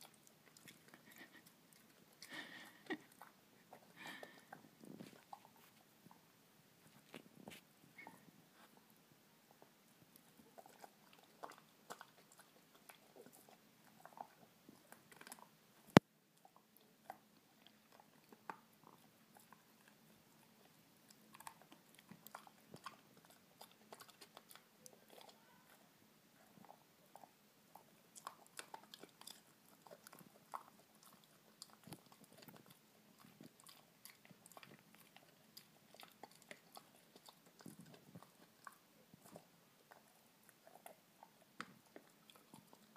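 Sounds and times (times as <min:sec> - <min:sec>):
teeth clicking on a chew: 0:00.0 - 0:05.6, 0:09.6 - 0:25.8, 0:26.4 - 0:42.9
dog gnawing on a chew: 0:00.0 - 0:06.2, 0:09.5 - 0:25.8, 0:26.4 - 0:42.9.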